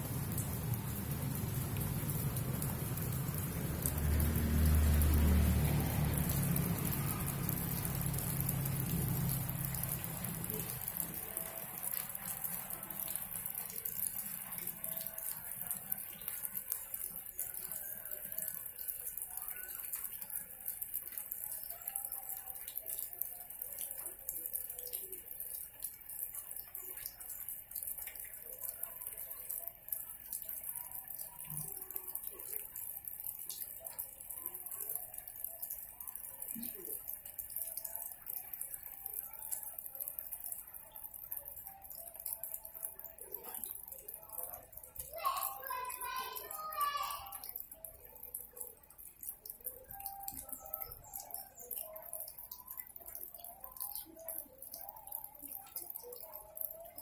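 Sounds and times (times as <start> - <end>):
light rain pattering: 0.0 - 57.0.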